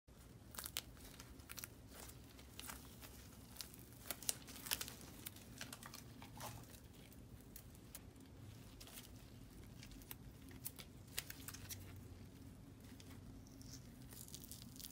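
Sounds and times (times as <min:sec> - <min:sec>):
silicone mold peeling crackles: 0:00.1 - 0:14.9.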